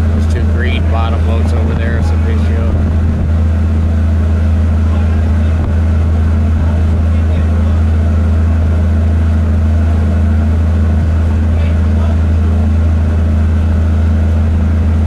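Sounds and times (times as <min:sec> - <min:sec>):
barge engine deep hum: 0:00.0 - 0:15.0.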